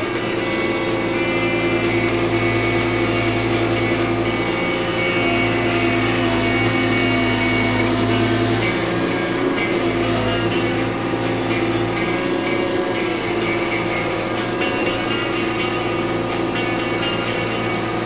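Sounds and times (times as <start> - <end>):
excavator diesel engine running: 0.0 - 18.0
high whining tones: 0.0 - 18.0.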